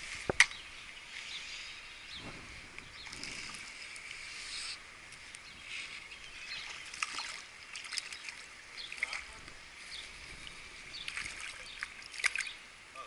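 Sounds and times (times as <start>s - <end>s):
water splashing and sloshing: 2.3s - 12.9s.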